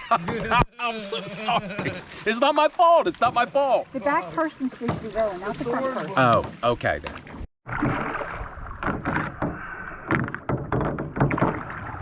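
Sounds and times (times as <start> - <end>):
paddle splashing in water: 1.7 - 12.0.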